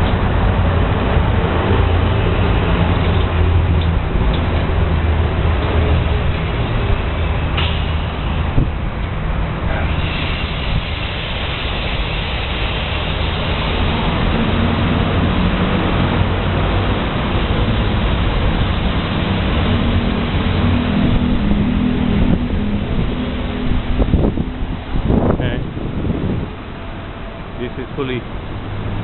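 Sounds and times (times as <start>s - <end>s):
constant rushing noise: 0.0s - 29.0s
vehicle engine humming: 0.0s - 29.0s.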